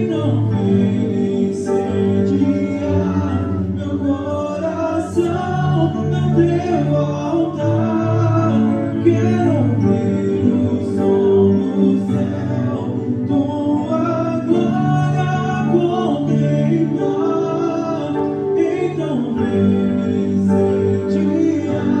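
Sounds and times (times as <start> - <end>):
sustained chords: 0.0 - 22.0
voices singing worship song: 0.0 - 22.0.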